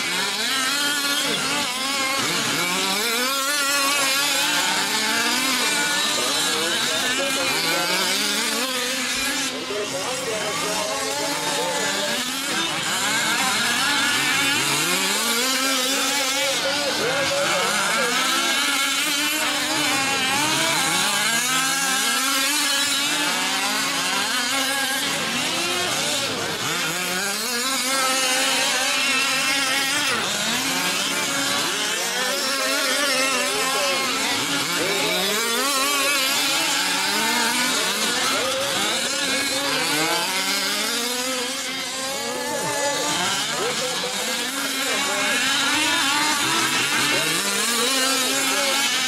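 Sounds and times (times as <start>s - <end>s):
small two-stroke engines revving: 0.0s - 49.0s.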